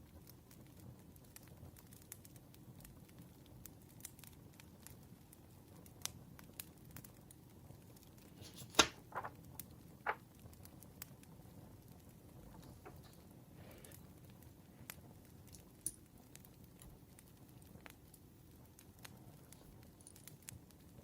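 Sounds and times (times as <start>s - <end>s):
campfire crackling: 0.0s - 8.4s, 9.0s - 21.0s.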